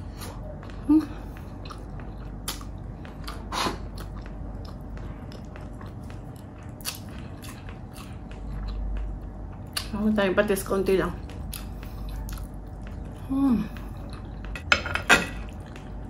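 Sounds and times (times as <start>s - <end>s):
person chewing food: 0.0s - 10.0s, 11.2s - 16.0s.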